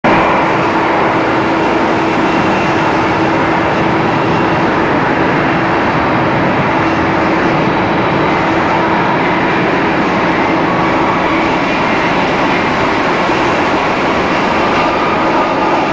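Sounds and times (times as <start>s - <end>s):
high-pitched whine: 0.0s - 15.9s
jet engine and airflow noise: 0.0s - 15.9s.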